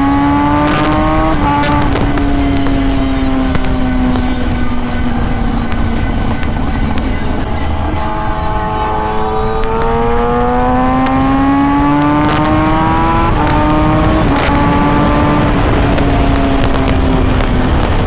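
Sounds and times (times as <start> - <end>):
motorcycle engine accelerating: 0.0 - 18.0
wind rumbling on microphone: 0.0 - 18.0.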